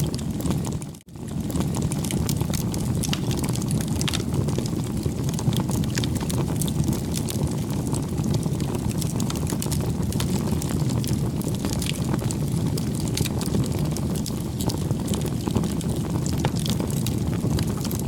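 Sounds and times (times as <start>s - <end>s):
bonfire flame rumble: 0.0s - 18.0s
burning wood crackling: 0.0s - 18.0s.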